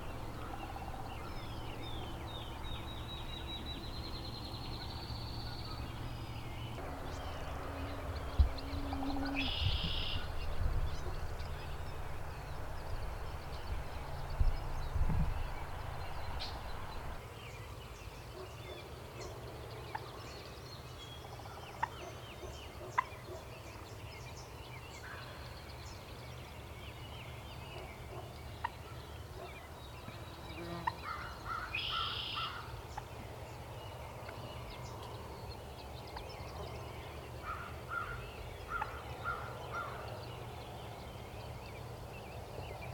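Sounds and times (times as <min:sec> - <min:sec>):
faint songbird chirps: 0:00.0 - 0:42.9.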